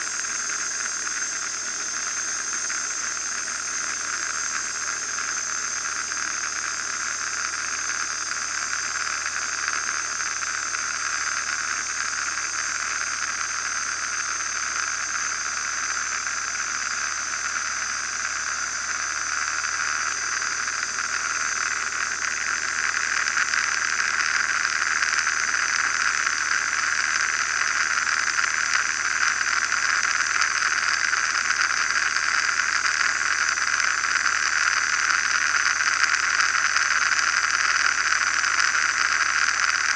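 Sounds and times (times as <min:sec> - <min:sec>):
propeller and engine drone: 0:00.0 - 0:39.9.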